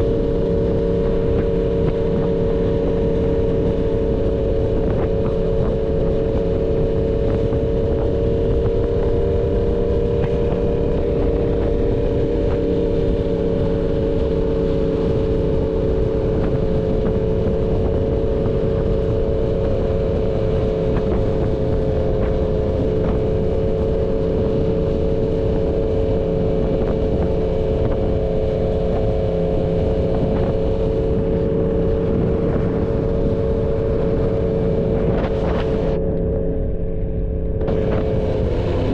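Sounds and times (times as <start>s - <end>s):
motorcycle engine at steady revs: 0.0s - 38.9s.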